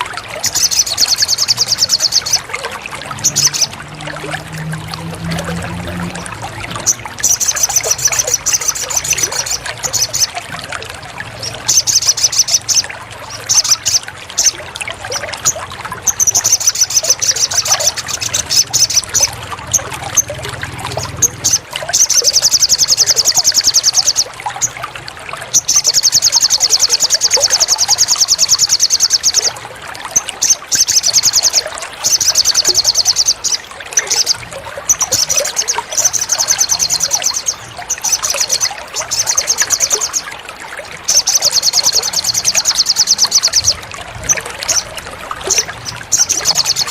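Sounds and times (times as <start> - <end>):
songbird trills: 0.0 - 10.5, 11.4 - 24.8, 25.5 - 46.9
trickling running water: 0.0 - 46.9.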